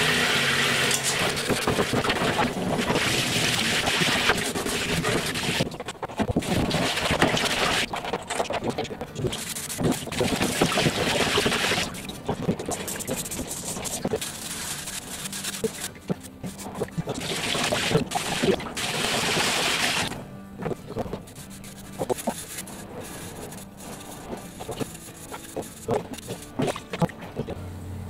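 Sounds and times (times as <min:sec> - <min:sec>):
shower spray on plastic: 0:00.0 - 0:08.1, 0:09.2 - 0:20.1, 0:21.3 - 0:27.1.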